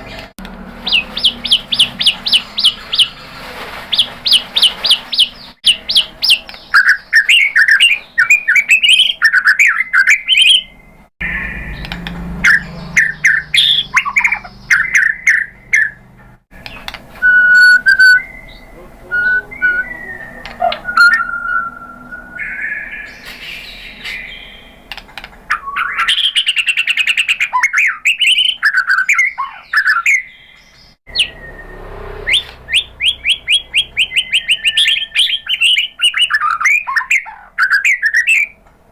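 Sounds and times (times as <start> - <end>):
songbird singing varied song: 0.0 - 3.2, 3.9 - 24.9, 25.5 - 38.6.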